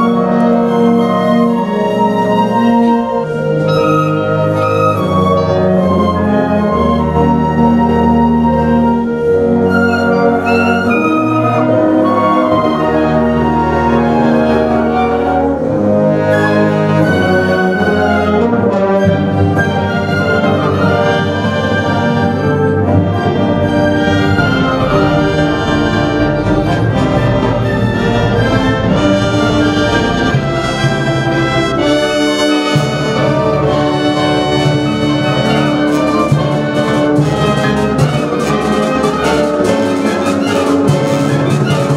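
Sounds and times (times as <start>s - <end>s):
brass orchestral music: 0.0s - 41.9s.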